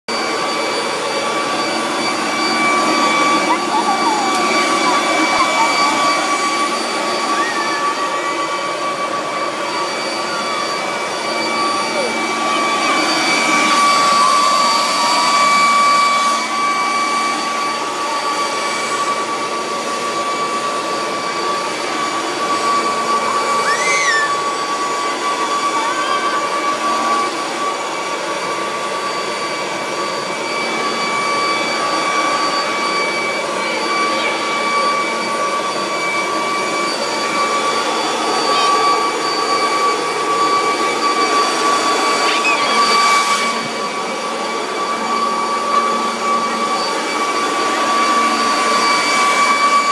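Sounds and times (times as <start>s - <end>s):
leaf blowers running: 0.1s - 49.9s.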